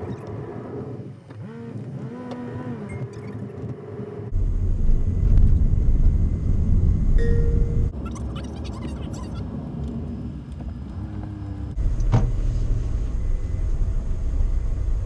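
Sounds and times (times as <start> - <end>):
van engine and road rumble: 0.0 - 15.0.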